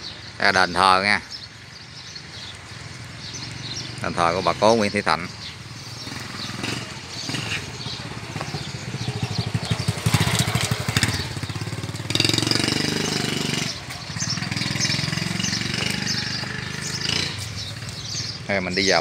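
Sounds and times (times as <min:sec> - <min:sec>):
higher engine hum: 0:02.8 - 0:18.6.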